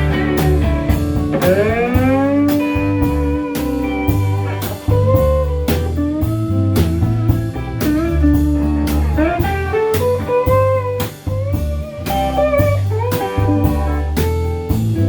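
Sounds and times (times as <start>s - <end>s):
bass: 0.0s - 15.0s
drums keeping a steady beat: 0.0s - 15.0s
guitar melody with bending notes: 0.0s - 15.0s.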